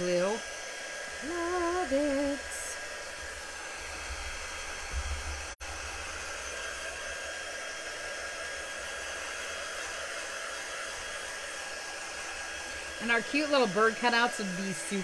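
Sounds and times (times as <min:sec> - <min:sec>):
heat tool blowing air: 0:00.0 - 0:15.0.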